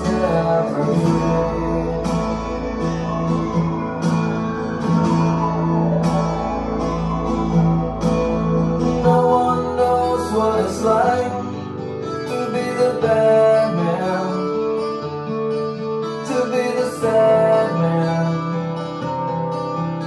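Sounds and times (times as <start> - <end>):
loud song with guitar and beat: 0.0 - 20.0.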